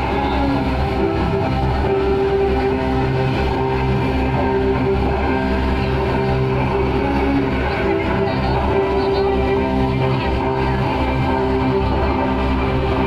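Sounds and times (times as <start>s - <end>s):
slow ambient music: 0.0s - 13.0s
steady low rumble: 0.0s - 13.0s.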